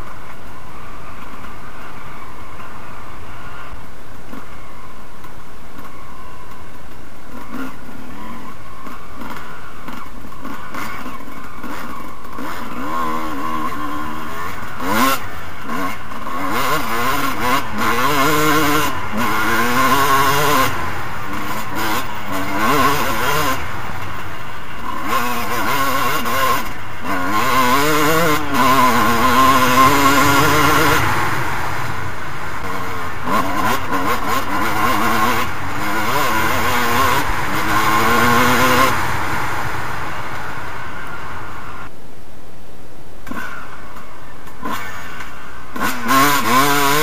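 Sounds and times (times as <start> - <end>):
motocross bike engine revving: 0.0 - 42.0, 43.2 - 47.0.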